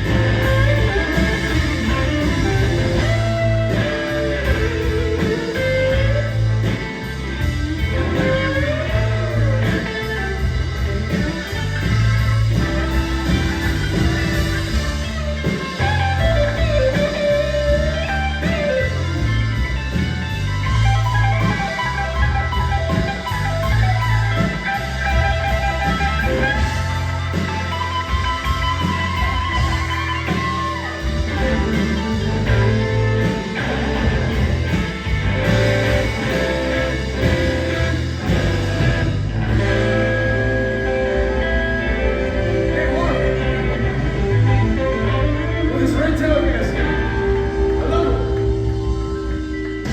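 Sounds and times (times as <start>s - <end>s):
bass line: 0.0s - 49.9s
drums: 0.0s - 49.9s
electric guitar: 0.0s - 49.9s
rock band playing live: 0.0s - 49.9s.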